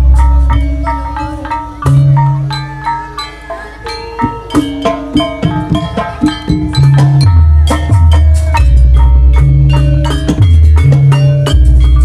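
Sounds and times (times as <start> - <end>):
metallophones ringing melody: 0.0 - 12.0.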